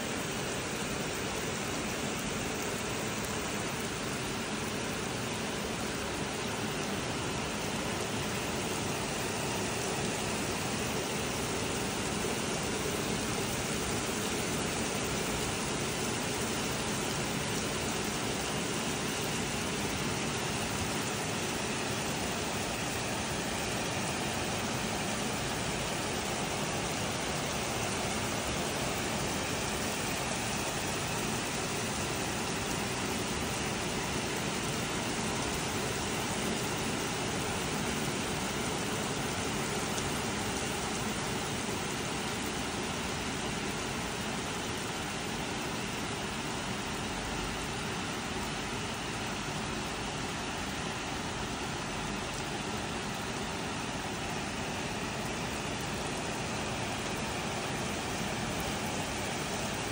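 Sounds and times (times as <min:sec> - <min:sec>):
heavy rain falling: 0:00.2 - 0:45.7, 0:50.6 - 0:59.9.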